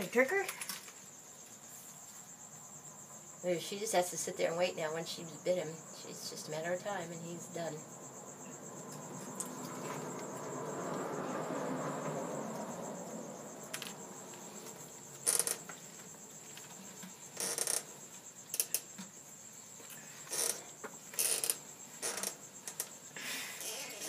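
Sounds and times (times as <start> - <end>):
cricket trilling: 0.0 - 24.0.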